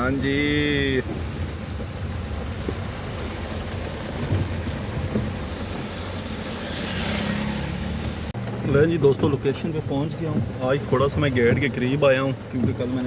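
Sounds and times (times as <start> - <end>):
engine and road noise: 0.0 - 13.0
heavy rain on car: 0.0 - 13.0.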